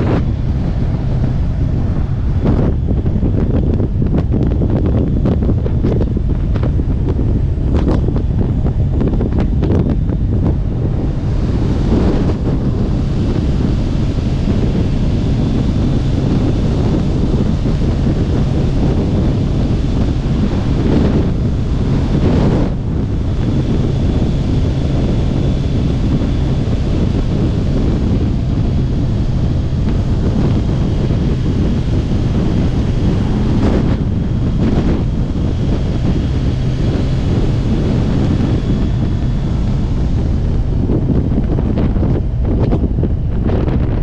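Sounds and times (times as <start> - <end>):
motorcycle engine humming: 0.0 - 44.0
wind buffeting microphone: 0.0 - 44.0.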